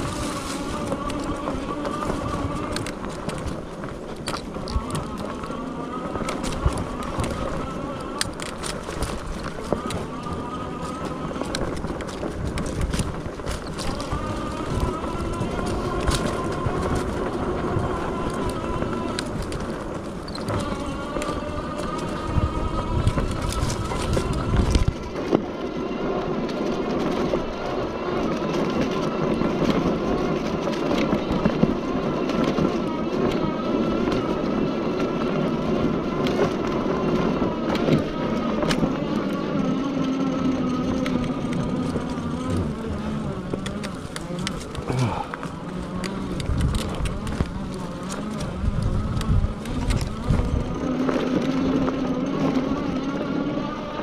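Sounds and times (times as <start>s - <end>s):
bike rattling and knocking: 0.0s - 54.0s
electric motor whining: 0.0s - 54.0s
tyres crunching on trail: 0.0s - 54.0s.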